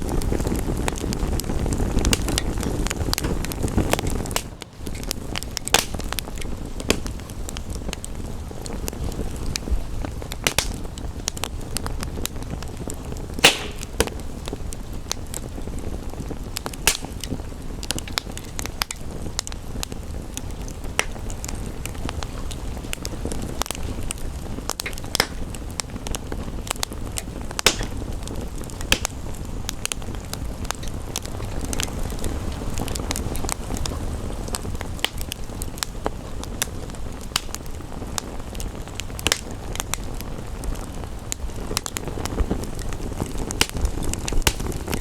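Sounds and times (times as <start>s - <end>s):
fire pops: 0.0s - 45.0s
low rumbling hiss: 0.0s - 45.0s
wood fire crackling: 0.0s - 45.0s.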